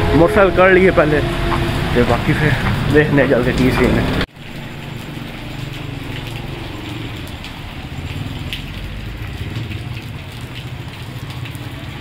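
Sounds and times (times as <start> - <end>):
rain ticking: 1.3 - 12.0.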